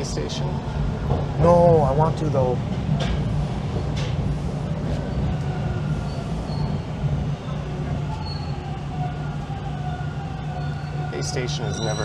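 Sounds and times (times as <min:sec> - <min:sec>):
subway train wheels rumbling: 0:00.0 - 0:12.0.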